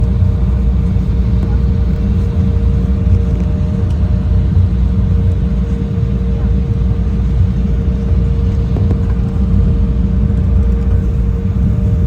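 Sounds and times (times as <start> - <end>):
airliner cabin rumble: 0.0 - 12.0
mid-pitched hum: 0.0 - 12.0.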